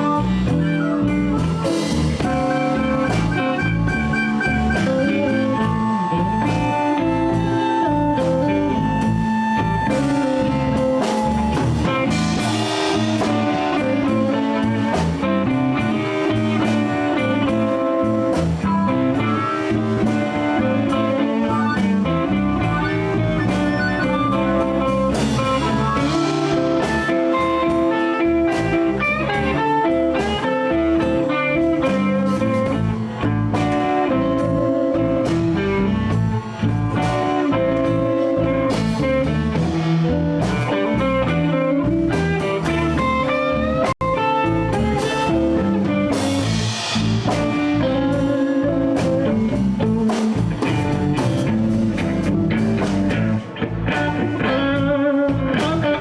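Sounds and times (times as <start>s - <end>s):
bass: 0.0s - 56.0s
drum kit: 0.0s - 56.0s
electric guitar: 0.0s - 56.0s.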